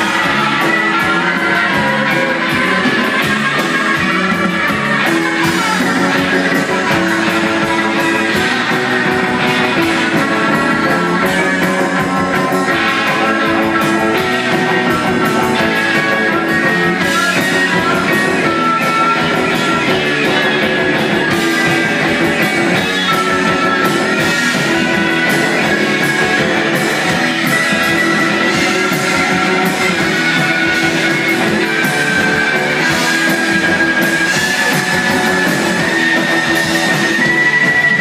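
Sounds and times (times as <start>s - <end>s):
drum beat: 0.0s - 38.0s
electric guitar: 0.0s - 38.0s.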